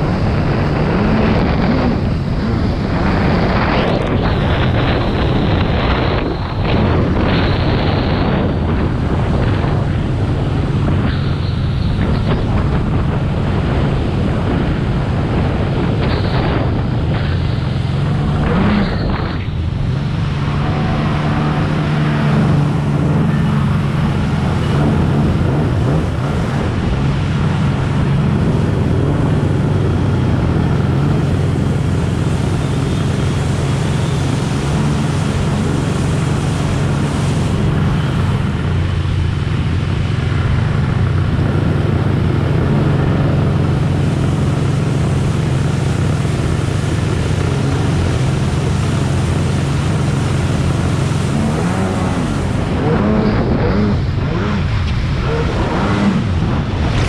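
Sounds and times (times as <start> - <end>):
jet ski engine drone: 0.0 - 57.0
water rushing against hull: 0.0 - 57.0.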